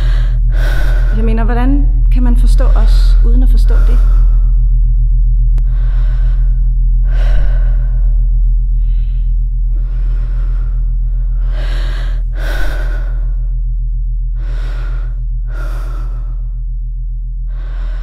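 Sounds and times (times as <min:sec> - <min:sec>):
heavy human breathing: 0:00.0 - 0:18.0
low pulsing drone: 0:00.0 - 0:18.0.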